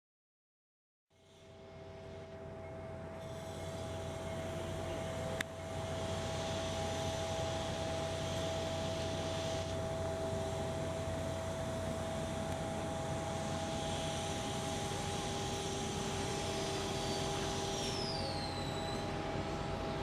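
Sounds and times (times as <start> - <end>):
constant whine: 1.2 - 20.0
machinery hum: 1.2 - 20.0.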